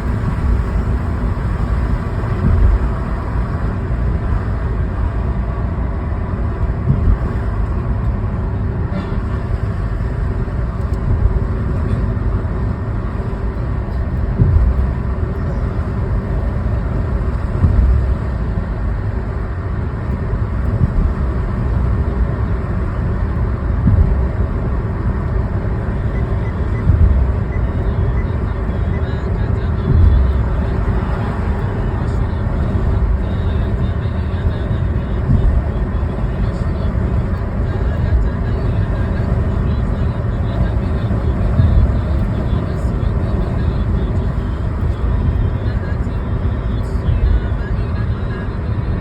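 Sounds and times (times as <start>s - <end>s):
short low thumps: 0.0s - 10.0s, 10.6s - 45.6s
car engine and tyre rumble: 0.0s - 49.0s.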